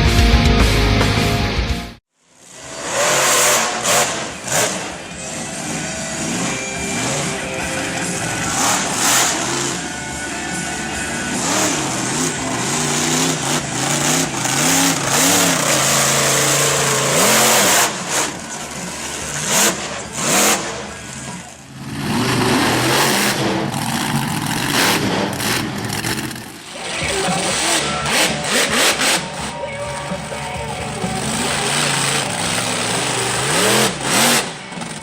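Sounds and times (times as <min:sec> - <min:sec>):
monster truck engines revving: 0:02.3 - 0:35.0.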